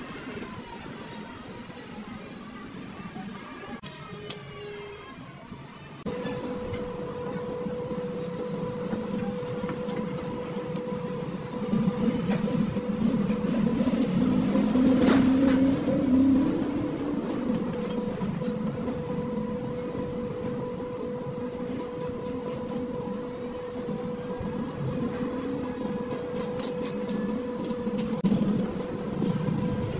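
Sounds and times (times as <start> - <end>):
machine humming: 3.6 - 29.9.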